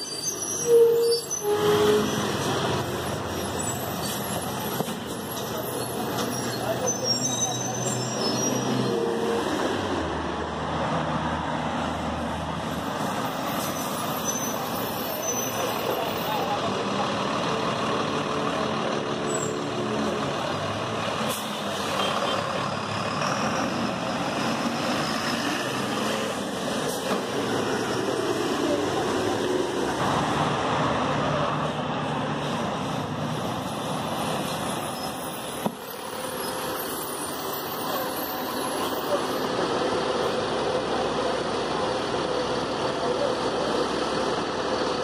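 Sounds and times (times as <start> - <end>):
bus diesel engine pulling away: 0.0 - 45.0
traffic noise: 0.0 - 45.0.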